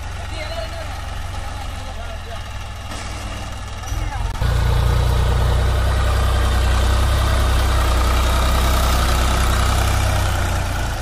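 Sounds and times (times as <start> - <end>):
tractor diesel engine rumbling: 0.0 - 11.0.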